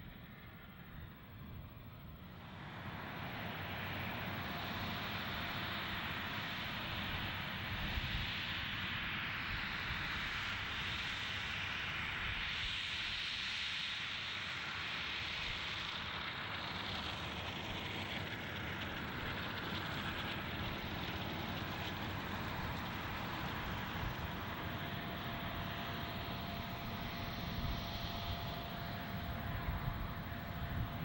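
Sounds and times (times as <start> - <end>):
jet engines taxiing: 0.0 - 31.0.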